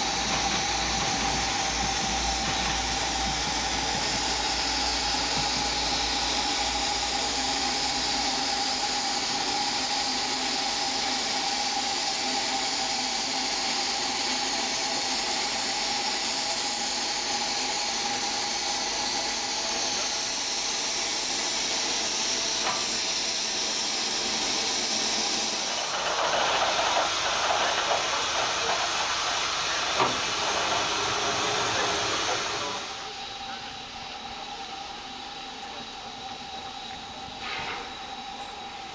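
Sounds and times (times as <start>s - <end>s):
steam hissing from locomotive: 0.0s - 38.9s.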